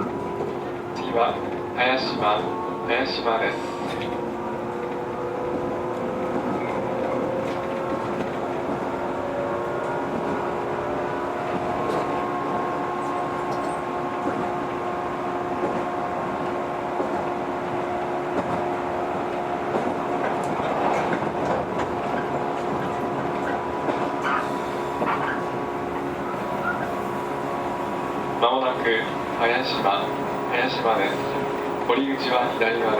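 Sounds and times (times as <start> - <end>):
wheels clacking over rails: 0.0 - 14.9, 15.5 - 32.9
train running rumble: 0.0 - 32.9.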